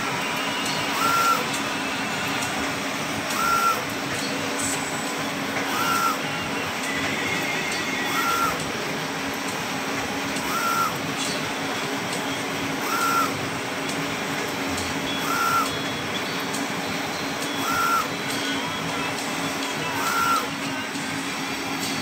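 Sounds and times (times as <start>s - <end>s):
print carriage whine: 0.0s - 22.0s
printer hum and fan noise: 0.0s - 22.0s.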